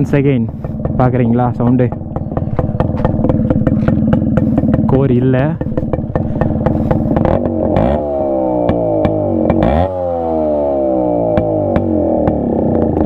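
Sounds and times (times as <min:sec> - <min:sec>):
engine sharp ticks: 0:00.0 - 0:09.9, 0:11.3 - 0:13.0
two-stroke engine throttle blips: 0:00.0 - 0:13.0.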